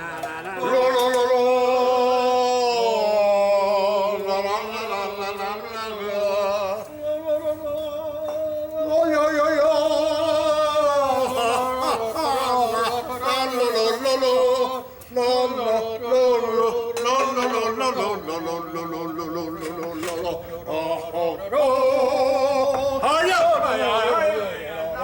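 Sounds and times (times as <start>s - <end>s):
person singing with vibrato: 0.0s - 25.0s.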